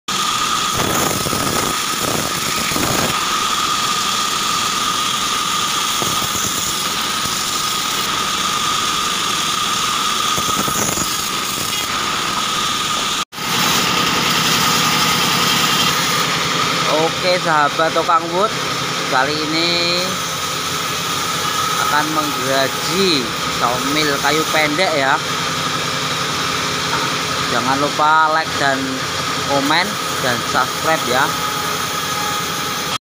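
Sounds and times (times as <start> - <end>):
engine and belts humming: 0.1 - 33.0
saw blade cutting logs: 0.1 - 33.0
sawmill whine: 0.1 - 33.0.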